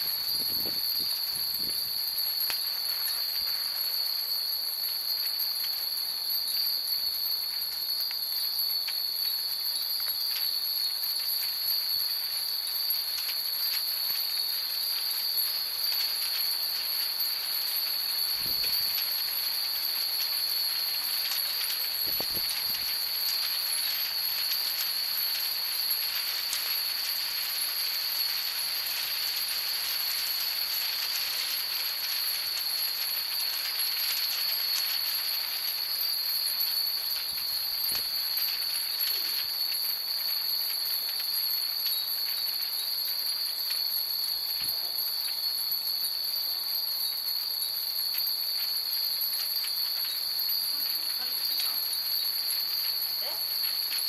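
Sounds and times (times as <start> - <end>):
wind chimes tinkling: 0.0 - 54.0.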